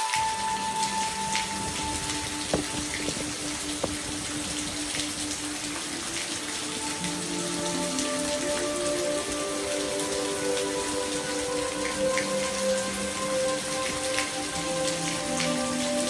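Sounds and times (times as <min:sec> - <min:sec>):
soft sustained music tones: 0:00.0 - 0:16.0
steady rain hiss: 0:00.0 - 0:16.0
water drops plinking: 0:00.0 - 0:16.0.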